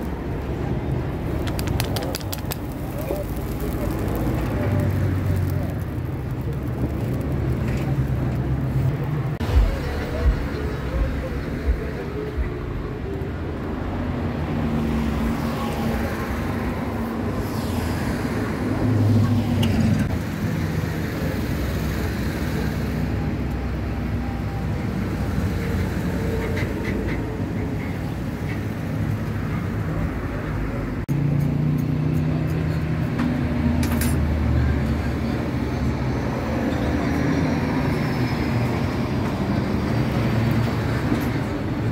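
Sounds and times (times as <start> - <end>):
vehicle engines humming: 0.0 - 41.9.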